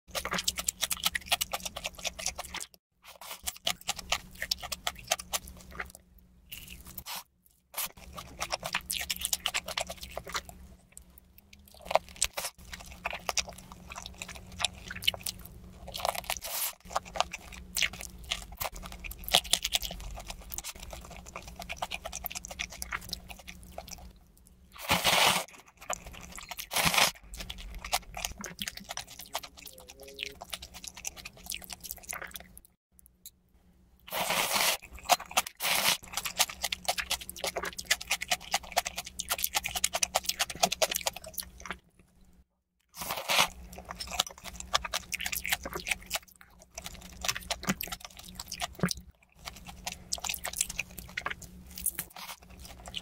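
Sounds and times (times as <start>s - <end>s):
crunching and chewing: 0.1s - 33.3s, 34.1s - 53.0s.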